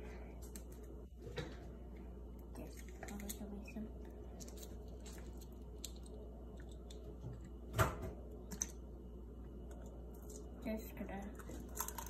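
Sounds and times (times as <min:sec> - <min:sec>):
eggshell crackling: 0:01.9 - 0:12.0.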